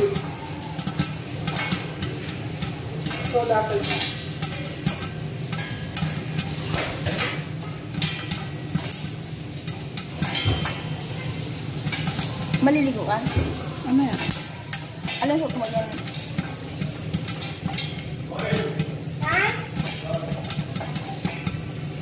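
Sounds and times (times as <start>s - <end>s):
corn kernels popping in a pot: 0.0s - 22.0s
steady sizzling: 0.0s - 22.0s.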